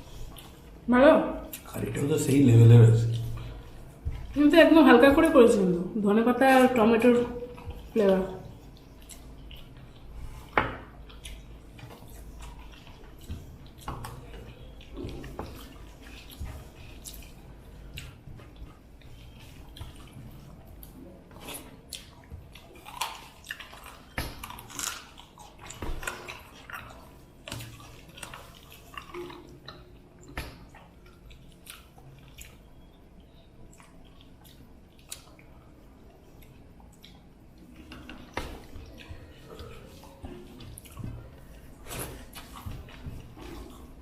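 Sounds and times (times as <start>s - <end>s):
chewing: 0.0s - 5.7s, 6.5s - 44.0s
wet squishy food handling: 0.0s - 44.0s.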